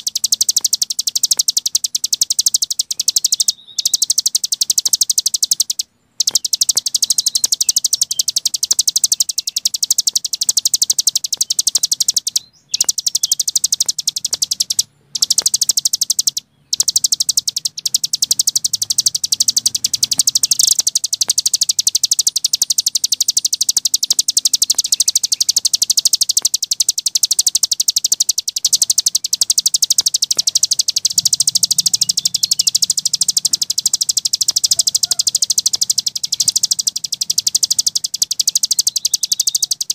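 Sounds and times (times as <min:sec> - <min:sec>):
songbird high-pitched trill: 0:00.0 - 0:39.9.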